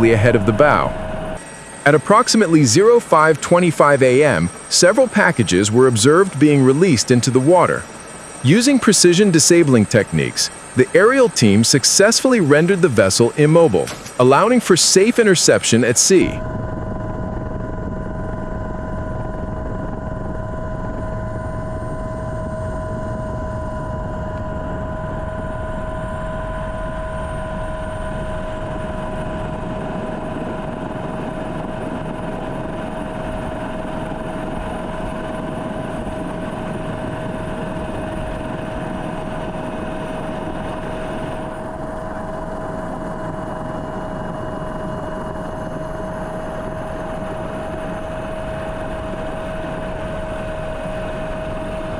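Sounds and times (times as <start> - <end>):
helicopter engine and rotor drone: 0.0 - 51.9
high-pitched whine: 0.0 - 51.9.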